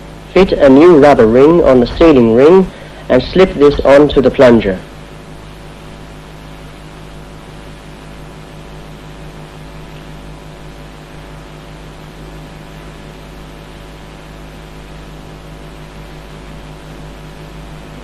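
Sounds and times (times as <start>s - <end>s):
constant hiss: 0.0s - 18.0s
electrical hum: 0.0s - 18.0s.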